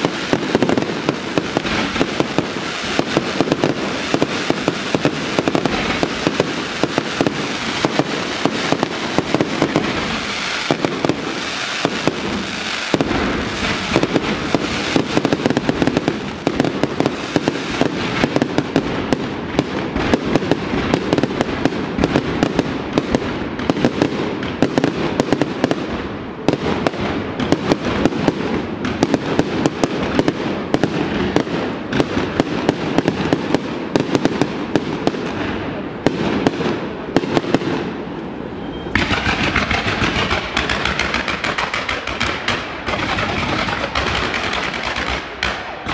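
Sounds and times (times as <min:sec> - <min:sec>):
fireworks bursts and crackling bangs: 0:00.0 - 0:45.9.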